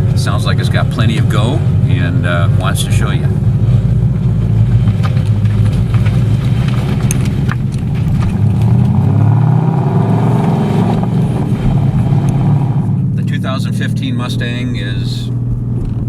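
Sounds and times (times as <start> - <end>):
car engine deep rumble: 0.0 - 16.0.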